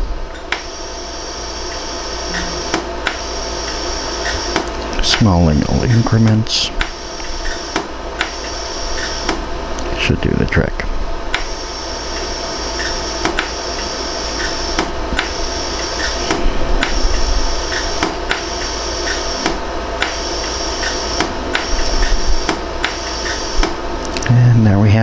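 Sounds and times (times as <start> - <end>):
steady high whine: 0.0 - 25.0
laser welder pulse clicks: 0.3 - 9.5, 11.3 - 23.8.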